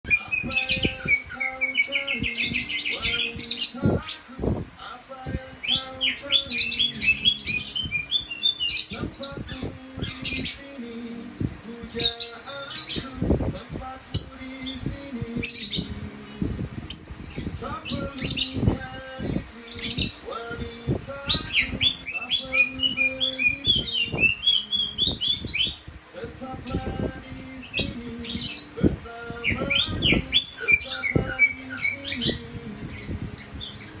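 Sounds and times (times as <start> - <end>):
songbird singing: 0.0 - 34.0.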